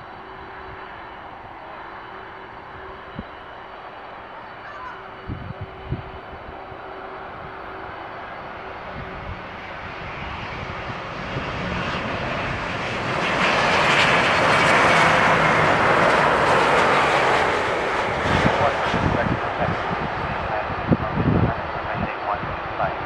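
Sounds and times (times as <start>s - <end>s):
airliner engines: 0.0s - 23.0s.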